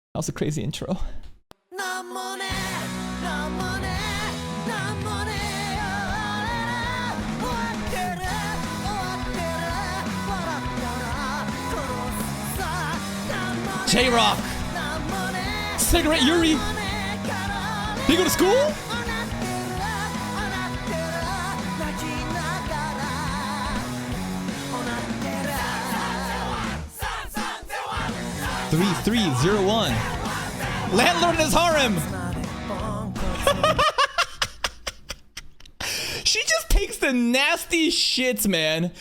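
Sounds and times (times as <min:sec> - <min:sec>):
rock-pop song with singer and band: 0:01.8 - 0:34.0.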